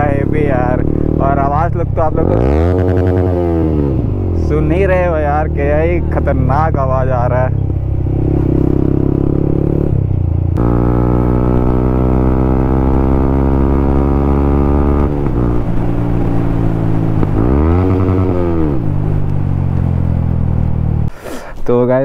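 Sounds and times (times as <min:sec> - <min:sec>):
motorcycle engine accelerating: 0:00.0 - 0:21.1.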